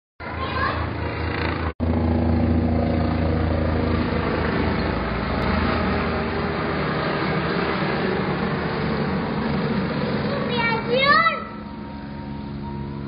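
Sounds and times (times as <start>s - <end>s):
helicopter rotor and turbine drone: 0.3s - 13.0s.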